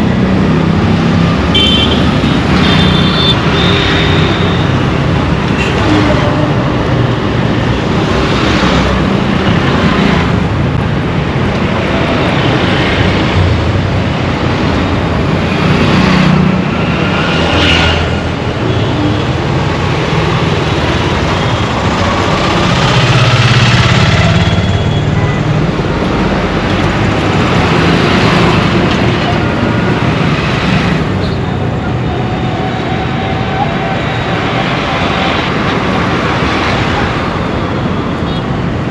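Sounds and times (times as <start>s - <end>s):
busy road traffic: 0.0s - 38.9s.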